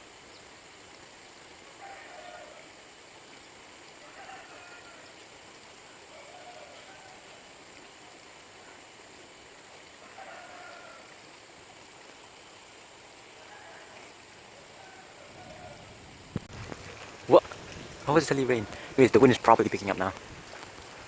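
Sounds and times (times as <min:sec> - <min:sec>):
light rain hiss: 0:00.0 - 0:21.0
wind: 0:00.0 - 0:21.0.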